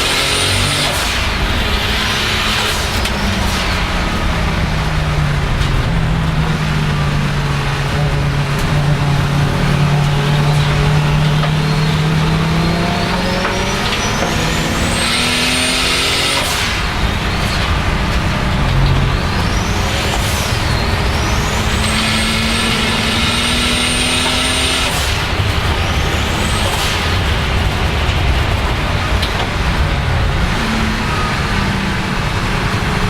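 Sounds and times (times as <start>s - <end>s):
car engine under hard load: 0.0s - 33.0s.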